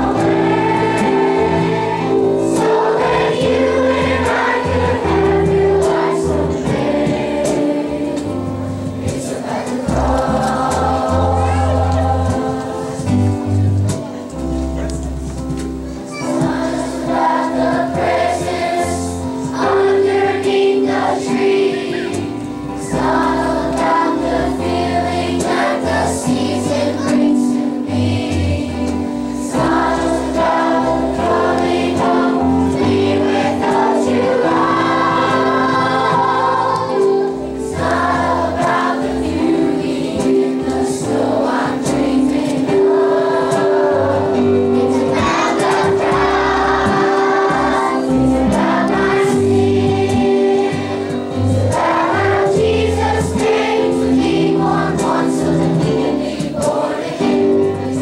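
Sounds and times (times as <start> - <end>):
choir singing: 0.0 - 14.9, 16.0 - 58.0
instrumental accompaniment: 0.0 - 58.0.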